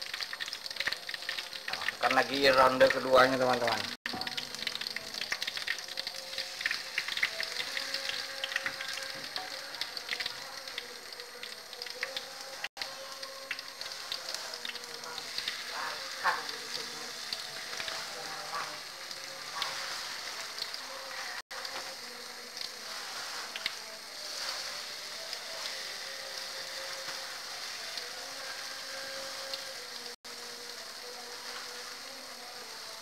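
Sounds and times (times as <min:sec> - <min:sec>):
batter deep-frying in hot oil: 0:00.0 - 0:33.0.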